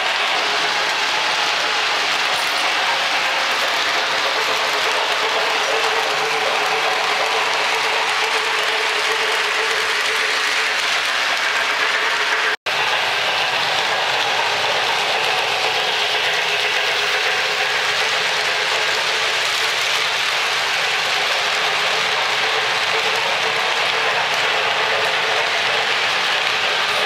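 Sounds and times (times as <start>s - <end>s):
model train wheels clattering: 0.0s - 27.0s.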